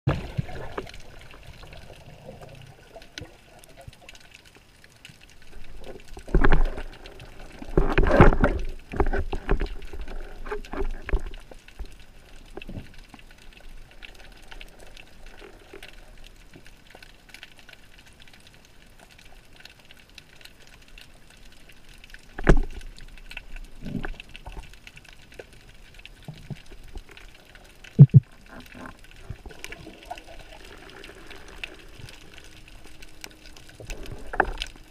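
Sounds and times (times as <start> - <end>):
muffled underwater water wash: 0.1 - 34.9
water surges: 0.1 - 34.9.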